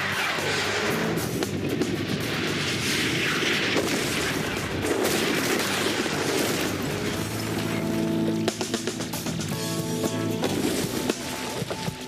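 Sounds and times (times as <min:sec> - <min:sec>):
crackling and rumbling of earth: 0:00.0 - 0:12.0.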